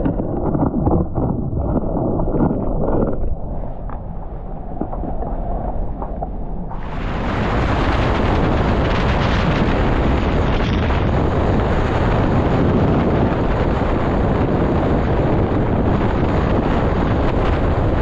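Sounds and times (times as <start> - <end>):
gusty wind on microphone: 0.0 - 18.0.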